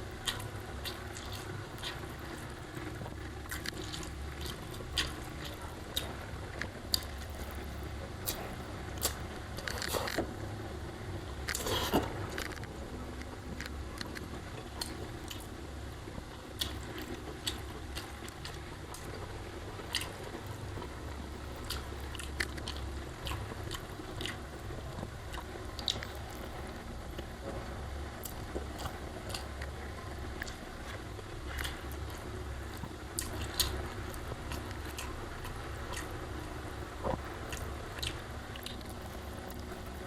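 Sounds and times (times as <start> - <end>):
chewing and eating: 0.0 - 10.7, 11.3 - 40.0
low background hum: 0.0 - 40.0.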